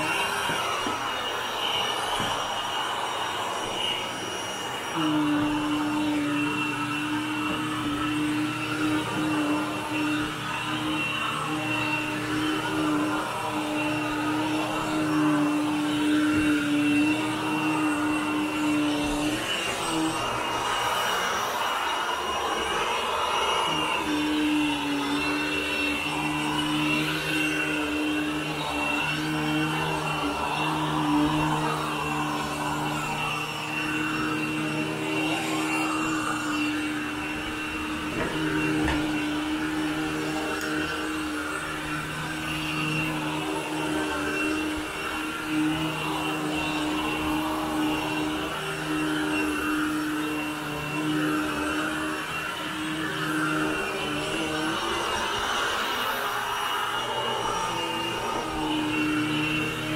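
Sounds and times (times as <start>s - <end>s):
upright vacuum cleaner on carpet: 0.0s - 59.9s.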